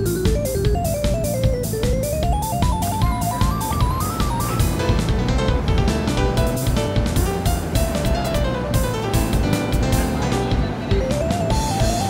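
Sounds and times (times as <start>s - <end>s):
upbeat music with drum beat and bass: 0.0s - 12.0s.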